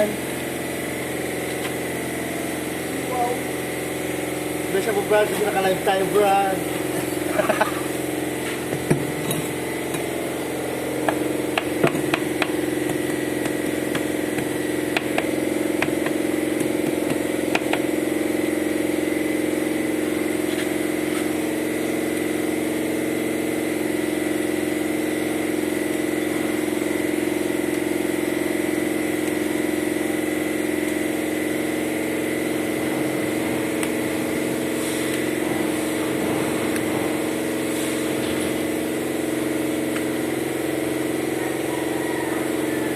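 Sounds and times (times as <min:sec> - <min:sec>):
motor humming steadily: 0:00.0 - 0:42.9.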